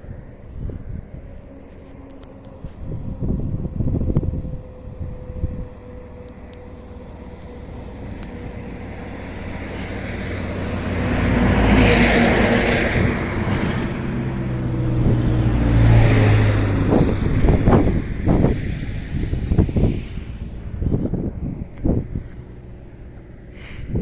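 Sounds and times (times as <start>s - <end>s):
low hum: 0.0s - 24.0s
train wheels rushing on rail: 4.4s - 24.0s.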